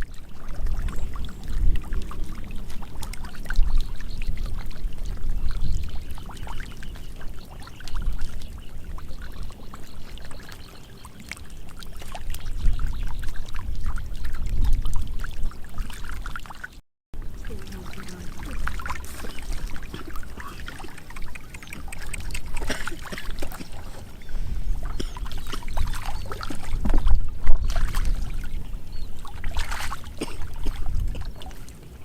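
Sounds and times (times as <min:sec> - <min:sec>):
muddy water splashing: 0:00.0 - 0:32.0.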